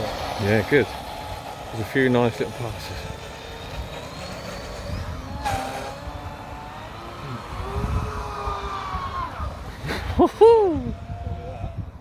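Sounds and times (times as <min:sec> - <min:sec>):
electric boat motor whining: 0:00.0 - 0:12.0
low wind rumble: 0:00.0 - 0:12.0.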